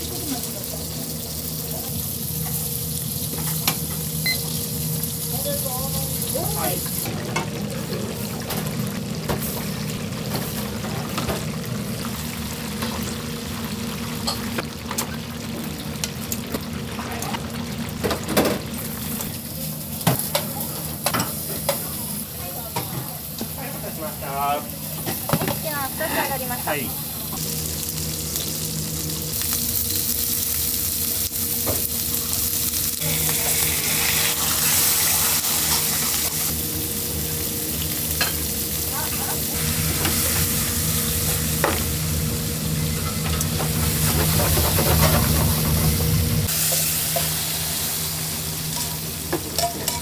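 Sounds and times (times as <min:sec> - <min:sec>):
meat sizzling in oil: 0:00.0 - 0:50.0.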